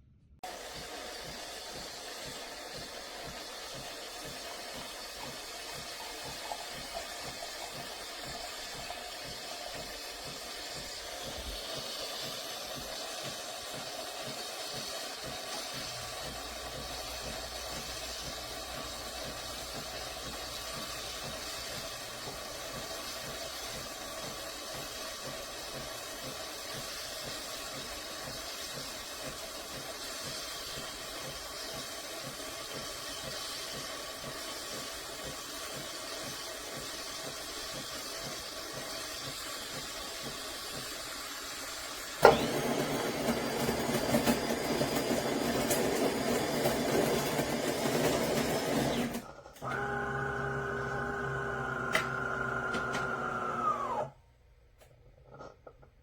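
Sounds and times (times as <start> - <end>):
espresso machine motor whirring: 0.4 - 54.2.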